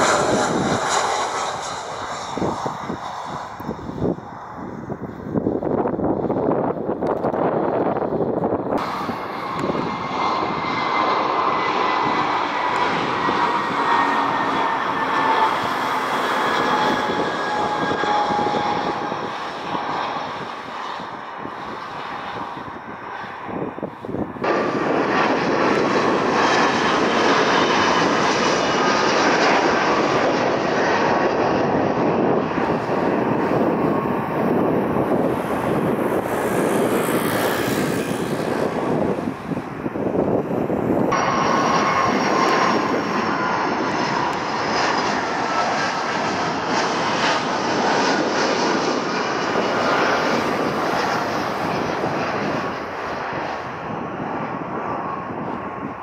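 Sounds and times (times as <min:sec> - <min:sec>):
jet airliner engines rumbling: 0:00.0 - 0:56.0.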